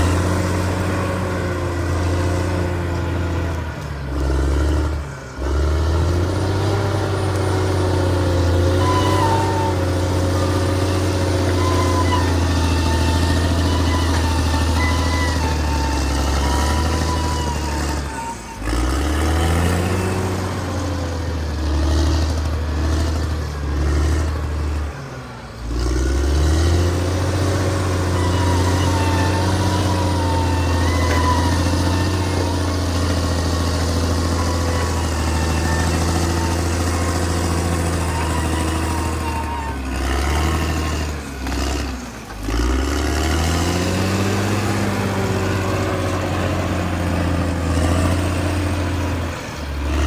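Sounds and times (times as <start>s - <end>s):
bulldozer diesel engine: 0.0s - 50.0s.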